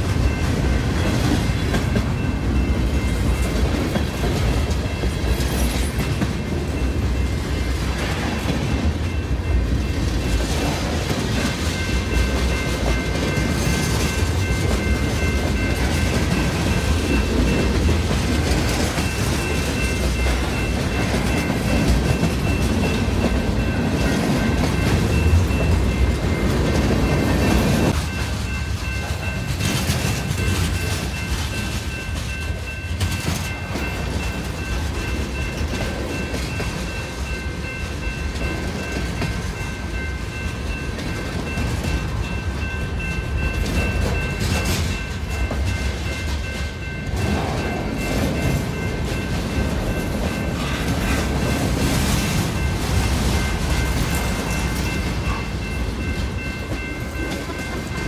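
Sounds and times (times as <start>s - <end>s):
freight train cars rolling: 0.0s - 58.0s
level-crossing warning bell ringing: 0.0s - 58.0s.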